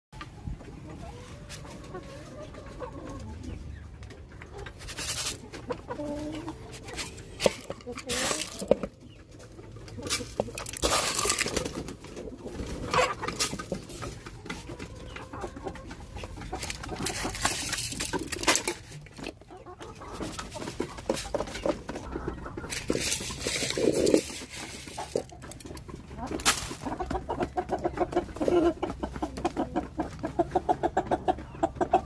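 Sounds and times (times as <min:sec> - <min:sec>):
chickens clucking: 0:00.2 - 0:32.0.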